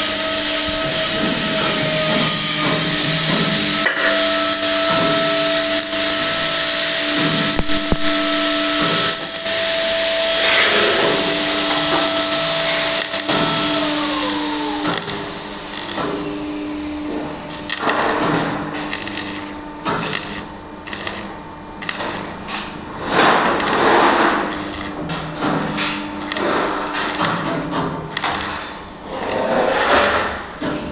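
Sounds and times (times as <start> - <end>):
power tool whining: 0.0 - 25.0, 26.1 - 27.5.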